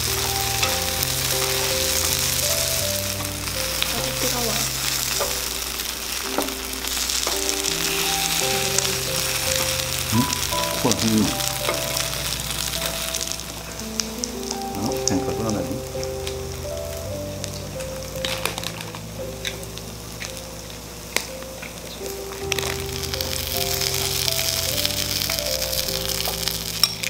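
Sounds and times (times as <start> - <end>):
background music with held notes: 0.0 - 27.0
batter sizzling in oil: 0.0 - 27.0.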